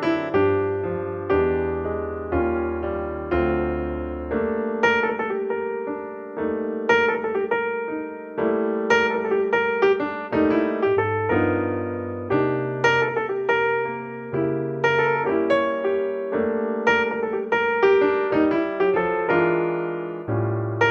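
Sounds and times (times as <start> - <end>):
piano music: 0.0 - 20.9.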